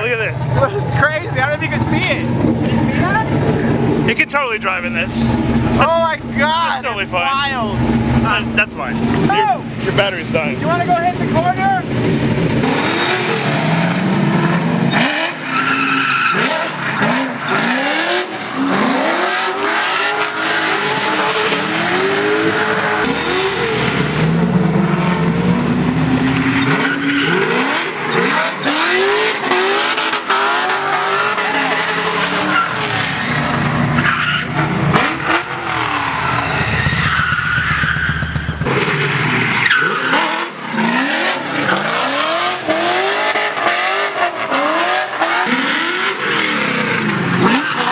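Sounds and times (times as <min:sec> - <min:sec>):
car engine revving: 0:00.0 - 0:47.9
tyres squealing and skidding: 0:00.0 - 0:47.9.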